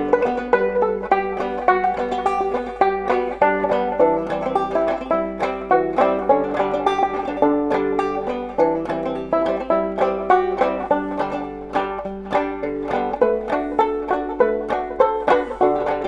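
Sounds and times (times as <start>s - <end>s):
banjo plucked tune: 0.0s - 16.0s.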